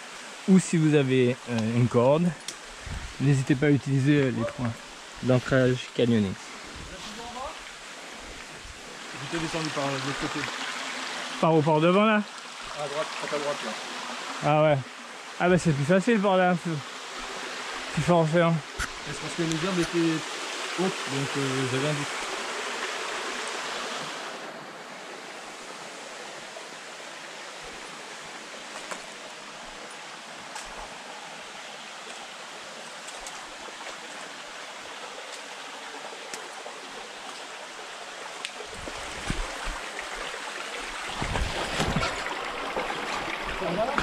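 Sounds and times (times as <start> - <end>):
stream running over rocks: 0.0 - 44.0.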